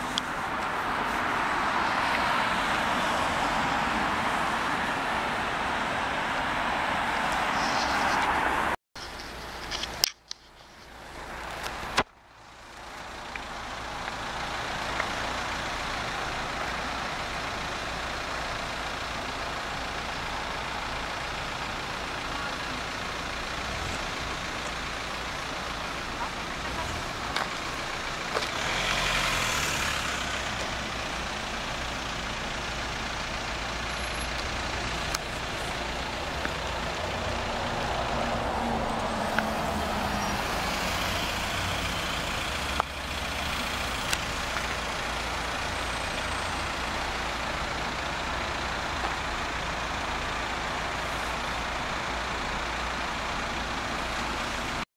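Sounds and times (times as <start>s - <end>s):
city road traffic: 0.0s - 54.9s.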